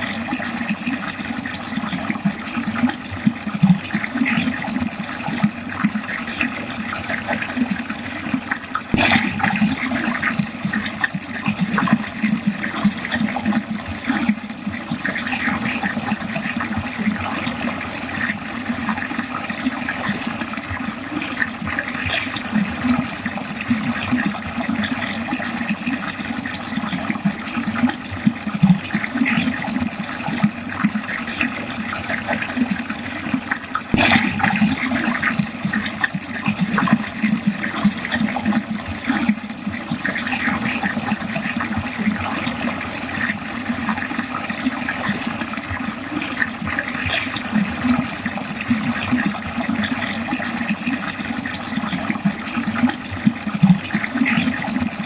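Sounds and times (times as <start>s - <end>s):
water gurgling into drain: 0.0s - 55.0s.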